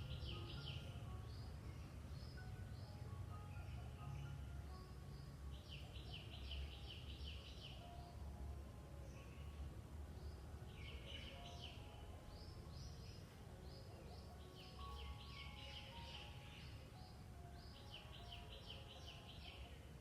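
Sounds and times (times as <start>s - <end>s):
birds chirping: 0.0s - 8.3s, 8.9s - 20.0s.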